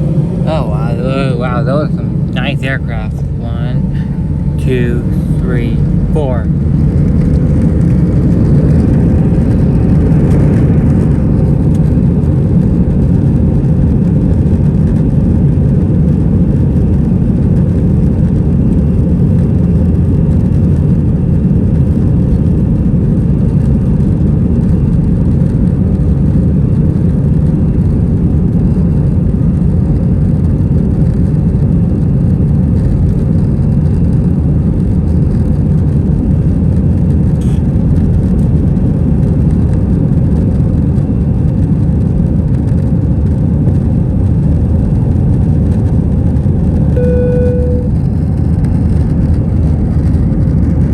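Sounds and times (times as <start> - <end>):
jet engine cabin rumble: 0.0 - 50.9.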